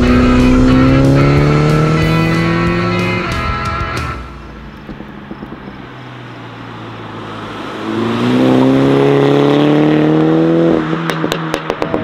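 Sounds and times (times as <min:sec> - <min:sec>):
car engine accelerating past: 0:00.0 - 0:04.2, 0:06.6 - 0:12.0.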